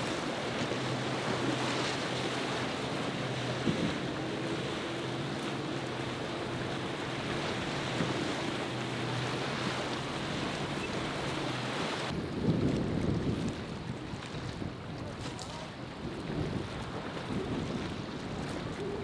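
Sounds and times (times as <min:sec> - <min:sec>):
boat engines droning: 0:00.0 - 0:12.4, 0:13.4 - 0:19.0
boat pounding through waves: 0:00.0 - 0:19.0
surf and spray rushing: 0:00.0 - 0:19.0
wind on microphone: 0:00.0 - 0:19.0.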